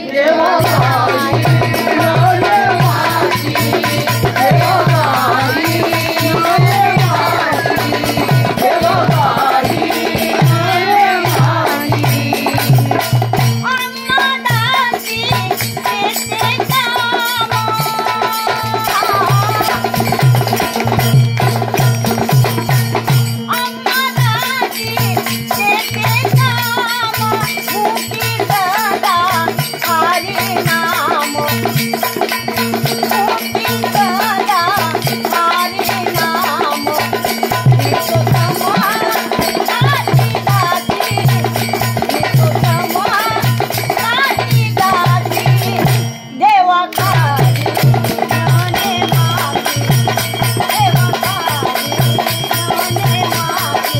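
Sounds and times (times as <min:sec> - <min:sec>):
jingling rattle percussion: 0:00.0 - 0:53.9
repeating drum beat: 0:00.0 - 0:53.9.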